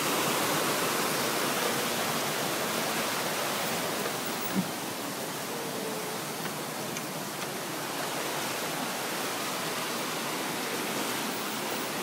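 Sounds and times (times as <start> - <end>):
rushing water of stream: 0.0 - 12.0.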